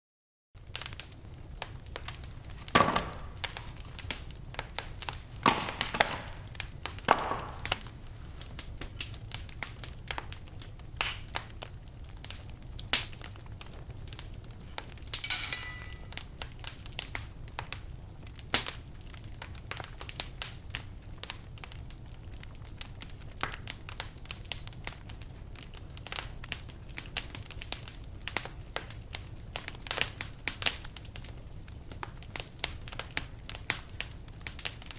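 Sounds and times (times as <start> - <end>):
wood fire crackling and popping: 0.6 - 34.9.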